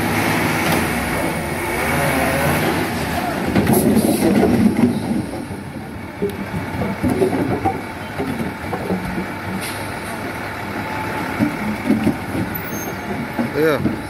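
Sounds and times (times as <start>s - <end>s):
diesel lorry engine running: 0.0s - 14.0s.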